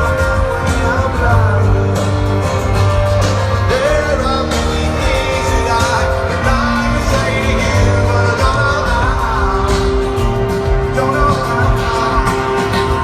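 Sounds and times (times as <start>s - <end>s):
person singing: 0.0s - 2.8s, 3.4s - 13.0s
rock band playing live: 0.0s - 13.0s.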